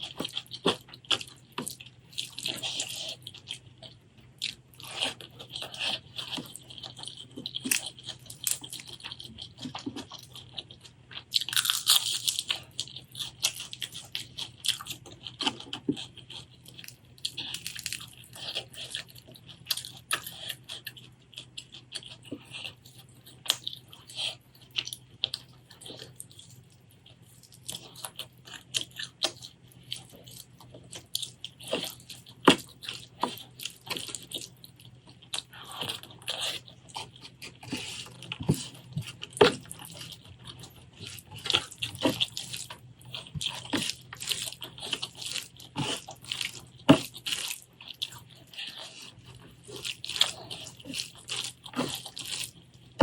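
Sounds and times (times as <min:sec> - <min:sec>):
wet chewing mouth sounds: 0:00.0 - 0:53.0.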